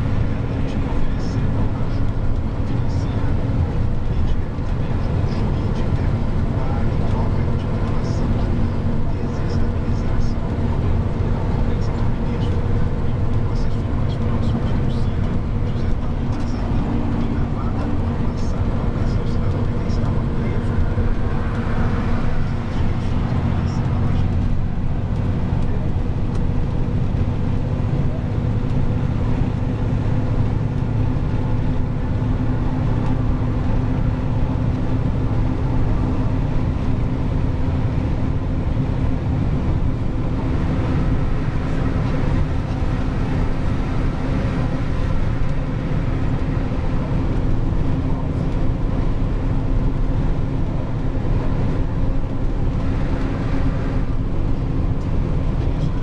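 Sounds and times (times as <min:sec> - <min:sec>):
road noise: 0:00.0 - 0:56.0
truck engine droning: 0:00.0 - 0:56.0.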